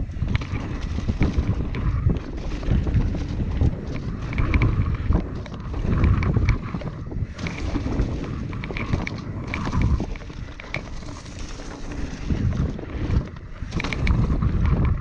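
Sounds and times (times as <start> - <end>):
bike clicks and rattles: 0.0 - 15.0
tyres rumbling on dirt: 0.0 - 15.0
wind buffeting microphone: 0.0 - 15.0.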